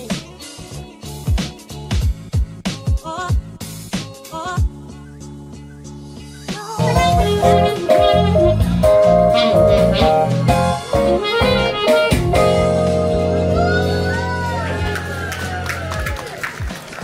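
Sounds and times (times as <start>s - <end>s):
steady bass line: 0.0s - 16.3s
instrumental music melody: 0.0s - 16.8s.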